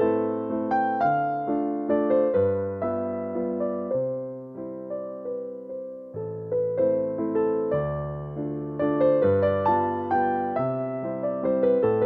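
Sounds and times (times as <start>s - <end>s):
slow gentle piano music: 0.0s - 12.0s.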